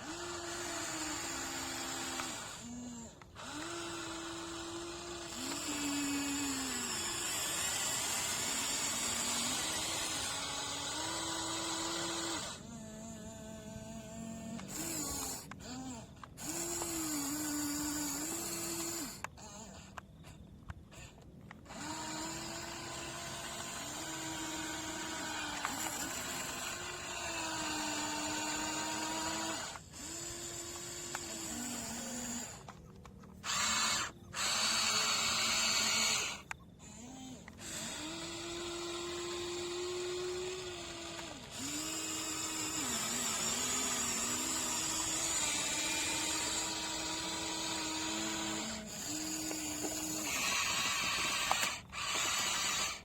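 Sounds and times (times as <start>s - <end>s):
small electric motors whining: 0.0s - 53.0s.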